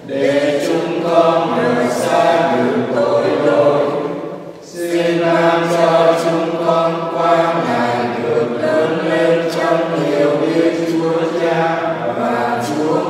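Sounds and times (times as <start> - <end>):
choir singing slow chant: 0.0 - 13.0.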